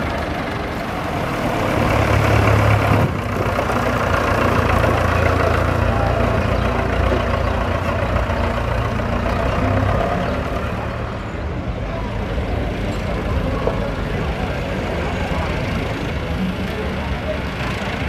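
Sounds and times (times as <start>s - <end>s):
diesel tractor engines droning: 0.0s - 18.0s.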